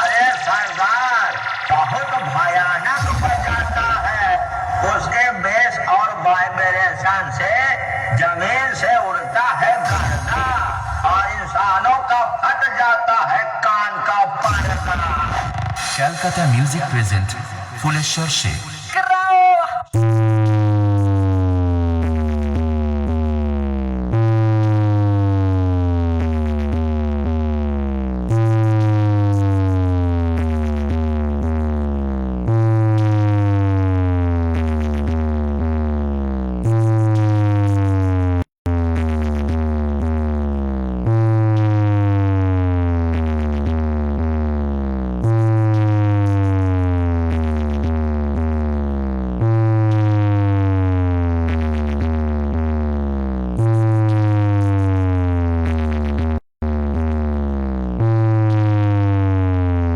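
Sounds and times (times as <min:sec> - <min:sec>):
deep electronic bass tone: 0:00.0 - 0:05.9, 0:07.0 - 0:12.5, 0:14.4 - 0:18.8, 0:19.9 - 0:59.9.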